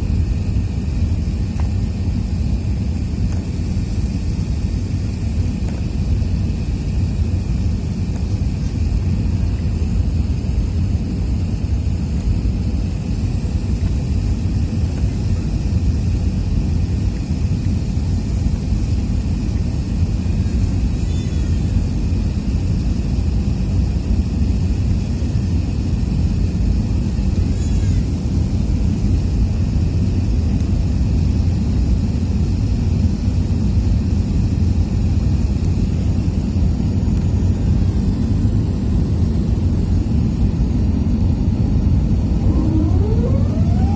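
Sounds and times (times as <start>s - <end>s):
jet engines rumbling: 0.0s - 32.2s, 35.5s - 43.9s.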